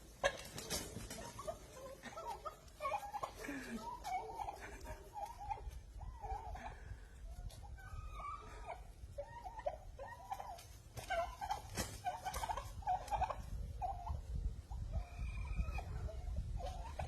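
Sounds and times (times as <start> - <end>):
turkeys chattering: 0.0 - 17.0.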